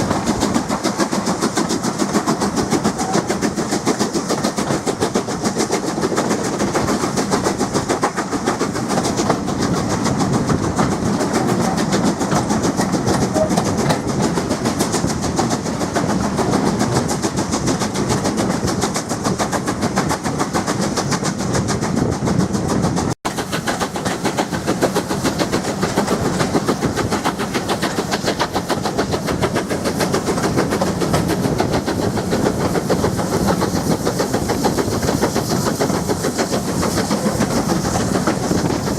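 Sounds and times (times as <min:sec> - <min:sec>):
train running: 0:00.0 - 0:38.9.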